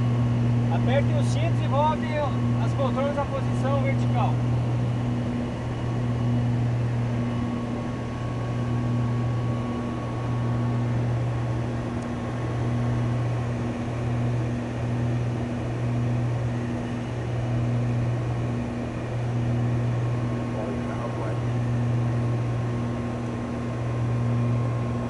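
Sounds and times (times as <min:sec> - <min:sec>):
aircraft engines droning in cabin: 0:00.0 - 0:25.0.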